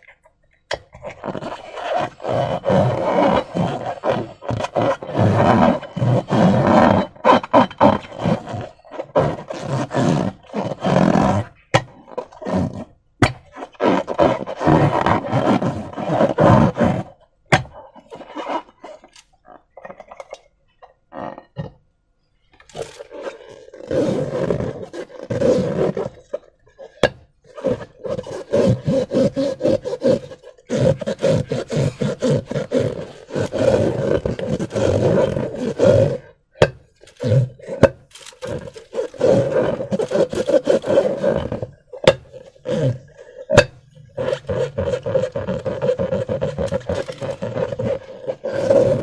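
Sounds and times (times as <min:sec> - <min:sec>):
rubbery squeaking and squelching: 0:00.8 - 0:21.5, 0:22.6 - 0:49.0.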